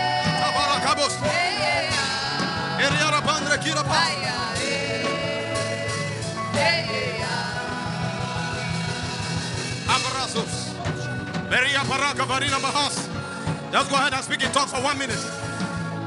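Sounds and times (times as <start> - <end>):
worship music with held chords: 0.0 - 16.0.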